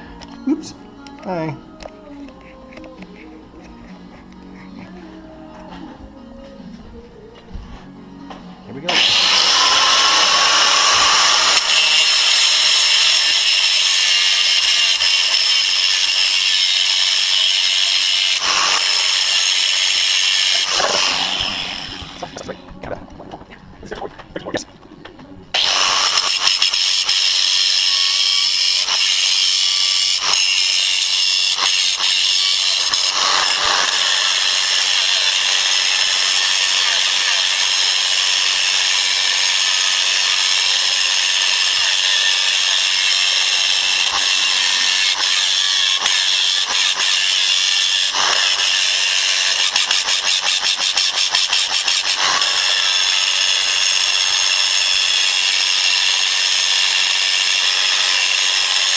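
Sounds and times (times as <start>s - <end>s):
power grinder whine: 8.7s - 22.6s, 25.5s - 58.9s.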